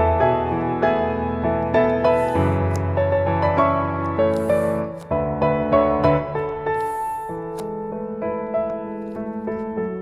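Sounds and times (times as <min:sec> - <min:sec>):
soft piano melody: 0:00.0 - 0:10.0.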